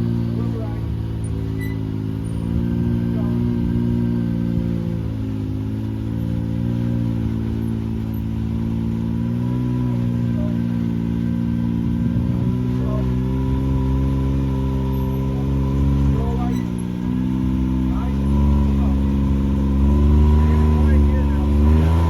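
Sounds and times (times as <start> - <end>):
vehicle engine running at low revs: 0.0 - 22.0.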